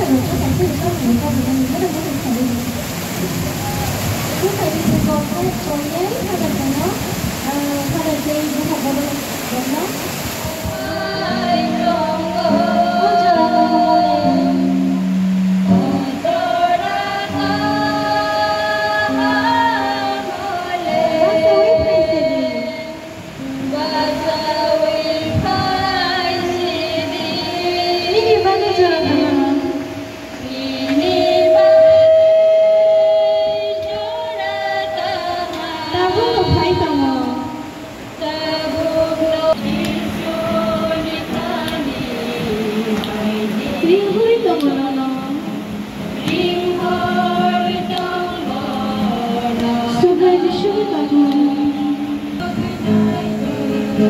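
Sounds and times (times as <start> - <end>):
women singing a hymn: 0.0 - 54.0.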